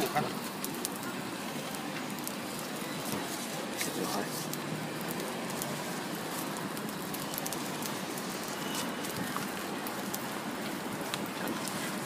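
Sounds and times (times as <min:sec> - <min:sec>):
pancakes sizzling on griddle: 0:00.0 - 0:12.0
small crackles: 0:00.0 - 0:12.0.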